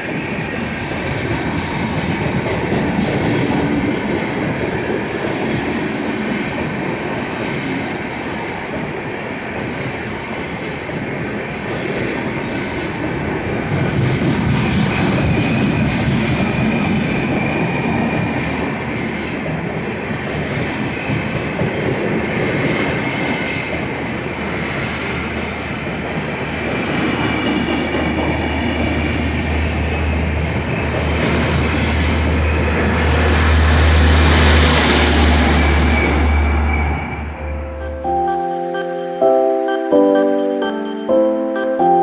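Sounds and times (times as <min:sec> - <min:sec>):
passenger train rumbling: 0:00.0 - 0:42.0.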